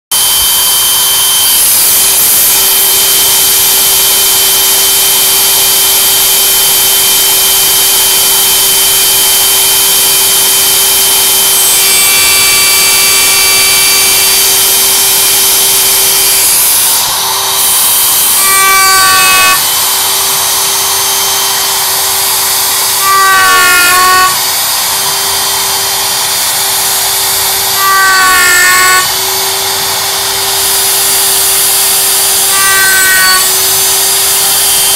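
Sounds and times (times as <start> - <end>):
router spindle whine: 0.1 - 34.9.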